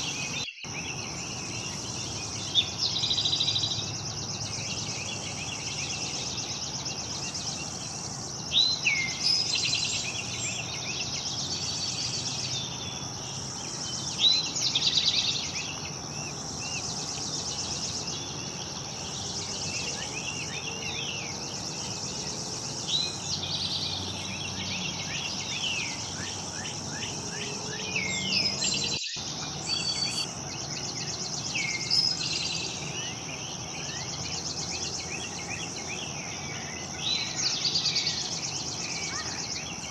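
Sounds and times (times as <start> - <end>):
insects droning: 0.0 - 39.9
songbirds chirping: 0.0 - 39.9.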